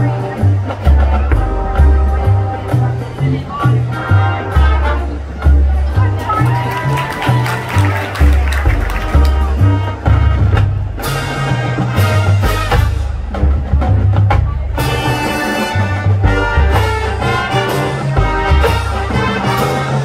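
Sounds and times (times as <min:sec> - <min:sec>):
brass: 0:00.0 - 0:20.0
steady drum beat: 0:00.0 - 0:20.0.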